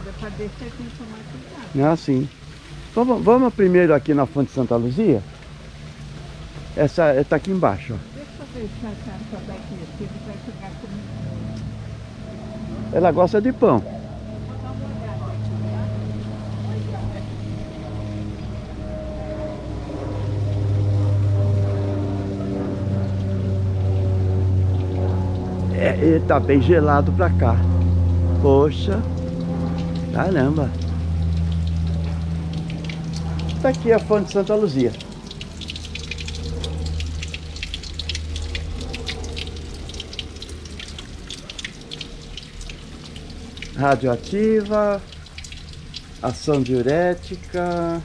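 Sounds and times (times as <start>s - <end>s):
low motor hum: 0.0s - 48.0s
water drips and splashes: 0.0s - 48.0s
water stream splashing into drain: 0.0s - 48.0s.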